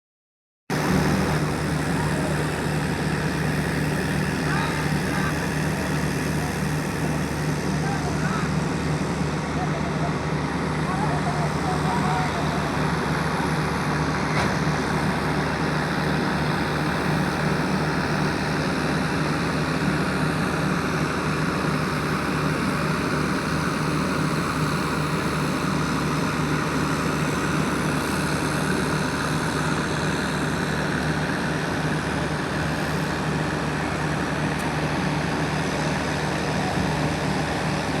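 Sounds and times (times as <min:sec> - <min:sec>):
heavy machinery engine droning: 0:00.7 - 0:38.0.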